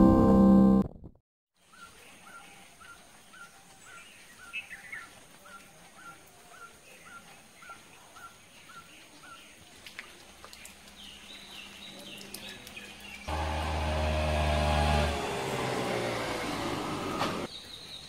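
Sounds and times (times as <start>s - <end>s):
birds chirping: 1.6s - 18.0s.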